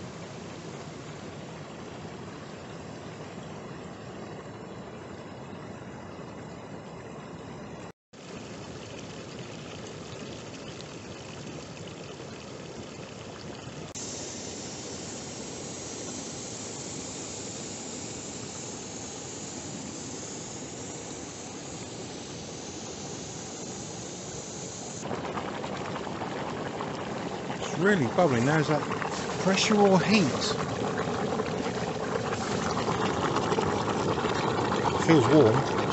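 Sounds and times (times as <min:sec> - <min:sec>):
hot springs bubbling: 0:00.0 - 0:35.9.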